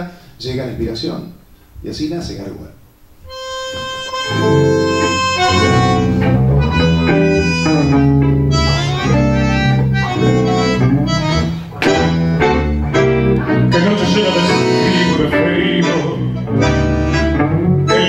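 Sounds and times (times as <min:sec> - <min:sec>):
bandoneon: 0:03.2 - 0:18.0
tango ensemble playing: 0:03.3 - 0:18.0.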